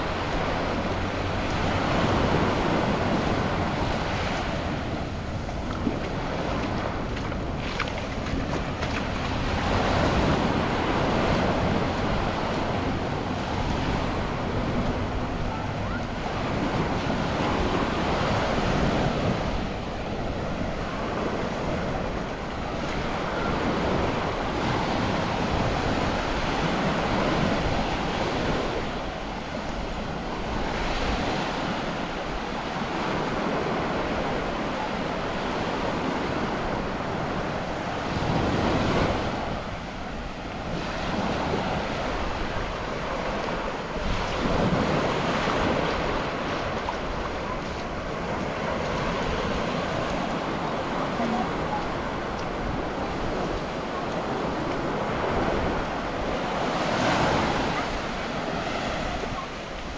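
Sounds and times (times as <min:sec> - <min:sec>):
surf breaking on beach: 0:00.0 - 0:59.9
wind buffeting microphone: 0:00.0 - 0:59.9.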